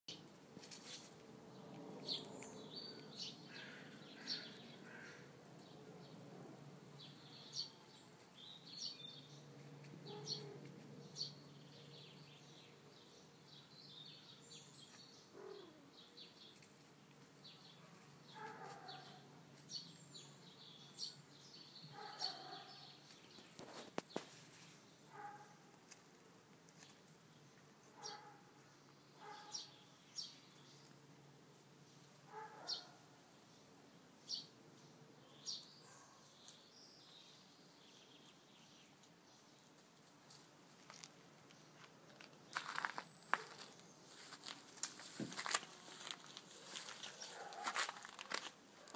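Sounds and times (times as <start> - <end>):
small birds chirping: 0.1 - 48.9.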